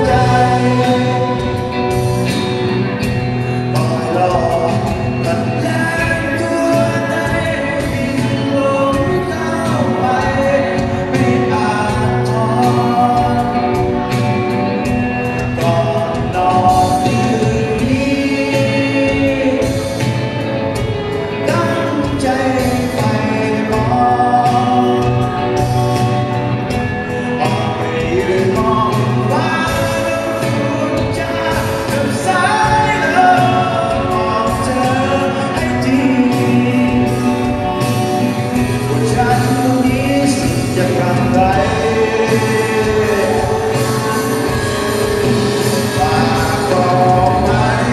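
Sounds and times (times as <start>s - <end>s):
drums: 0.0s - 47.9s
electric guitars: 0.0s - 47.9s
person singing: 0.0s - 47.9s.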